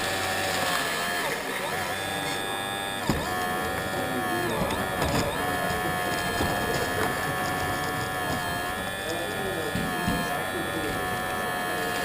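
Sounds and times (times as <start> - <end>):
electric motors and pump whining: 0.0 - 12.0.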